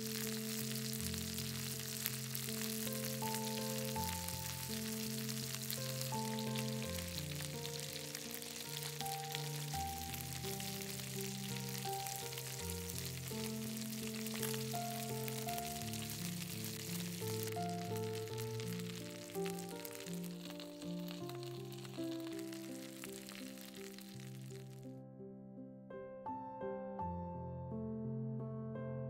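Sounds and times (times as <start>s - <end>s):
chicken sizzling in a skillet: 0.0s - 24.8s
soft background music: 0.0s - 29.0s.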